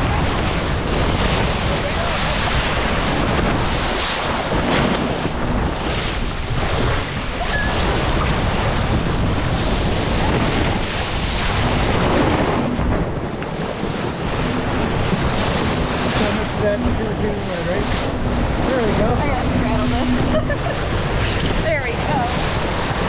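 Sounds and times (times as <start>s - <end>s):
bow wave splashing along hull: 0.0s - 23.0s
wind buffeting microphone: 0.0s - 23.0s.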